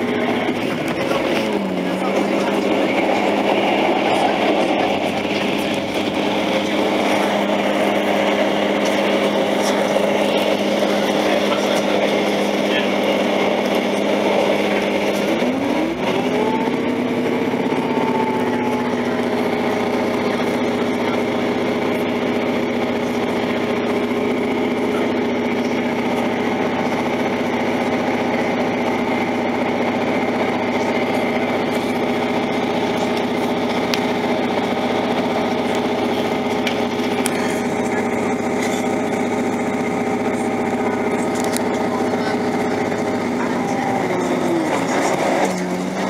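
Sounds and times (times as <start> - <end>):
train engine droning: 0.0 - 46.0.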